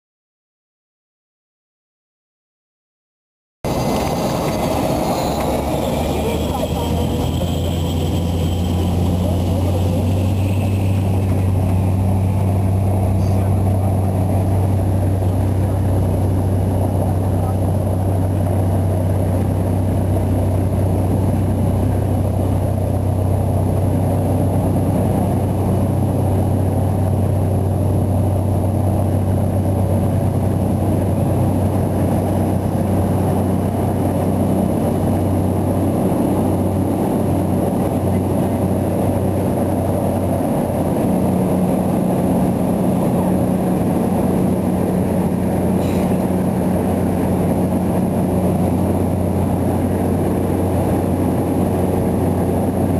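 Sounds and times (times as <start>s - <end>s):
turboprop cabin drone: 3.6s - 52.9s
higher hum: 3.7s - 52.9s.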